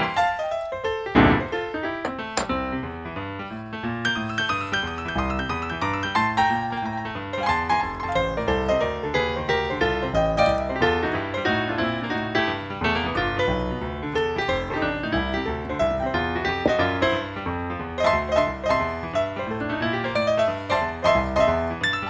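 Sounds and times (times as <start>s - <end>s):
piano background music: 0.0s - 22.0s.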